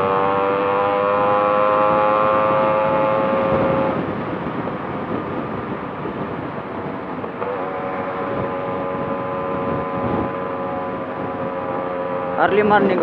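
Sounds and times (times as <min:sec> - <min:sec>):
motorcycle engine at high revs: 0:00.0 - 0:13.0
wind rush: 0:00.0 - 0:13.0.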